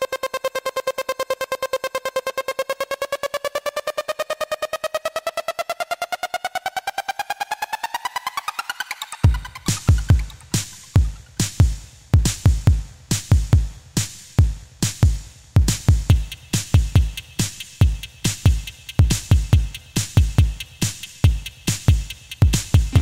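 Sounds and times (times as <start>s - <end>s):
electronic music with drum-machine beat: 0.0s - 23.0s.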